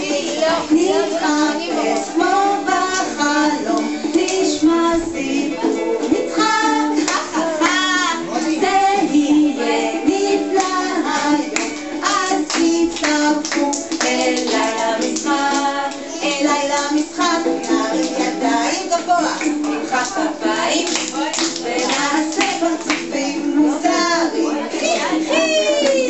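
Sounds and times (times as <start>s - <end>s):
music accompaniment: 0.0s - 26.0s
woman singing children's song: 0.0s - 26.0s.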